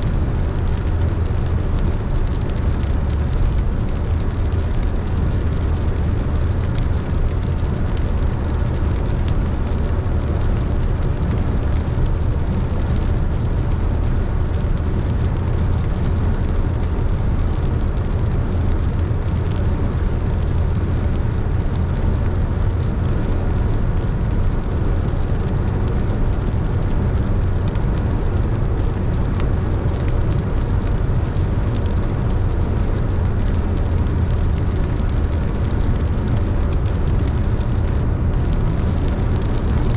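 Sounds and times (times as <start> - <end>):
engine and tyres rumbling: 0.0 - 39.9
rain and tyre spray hiss: 0.0 - 39.9.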